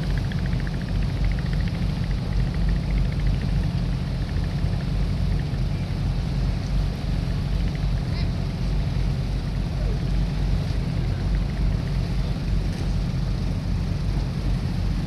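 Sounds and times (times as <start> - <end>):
boat engine droning: 0.0 - 15.0
constant rushing noise: 0.0 - 15.0.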